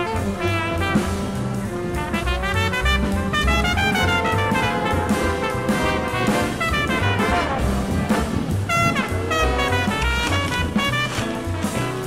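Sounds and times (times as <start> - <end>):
jazz with brass and bass: 0.0 - 12.0.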